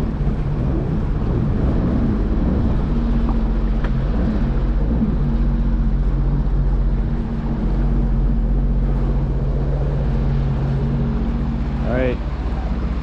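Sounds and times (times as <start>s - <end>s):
watercraft engine running: 0.0s - 13.0s.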